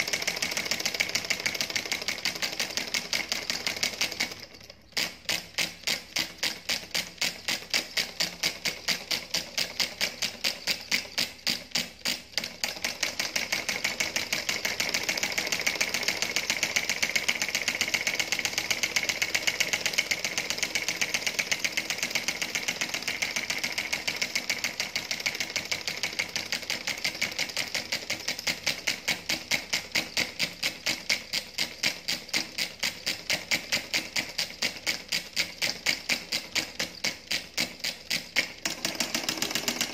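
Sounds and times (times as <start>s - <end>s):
solenoid engine clicking: 0.0s - 39.9s.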